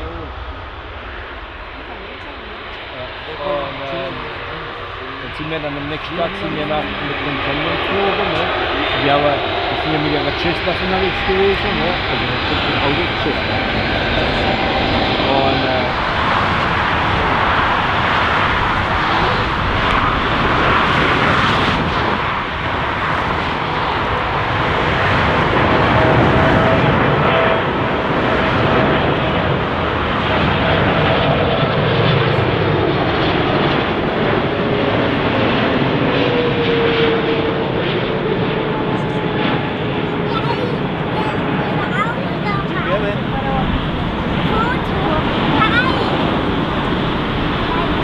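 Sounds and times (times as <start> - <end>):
jet engines passing: 0.0 - 48.0.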